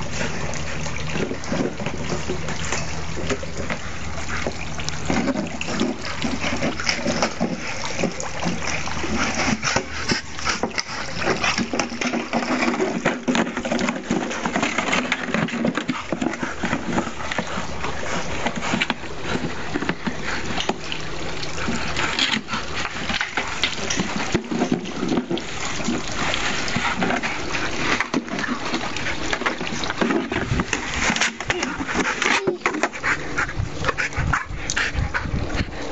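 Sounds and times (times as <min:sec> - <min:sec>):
water pouring on grass: 0:00.0 - 0:18.4, 0:19.0 - 0:32.0
dog splashing at water: 0:00.0 - 0:35.9.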